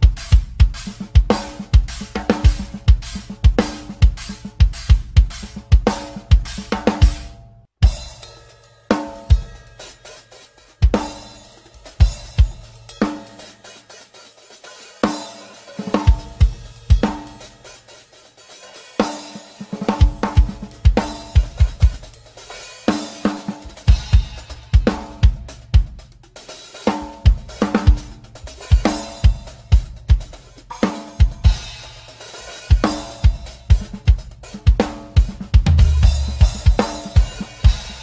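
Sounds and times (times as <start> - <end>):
drum kit playing: 0.0 - 38.0.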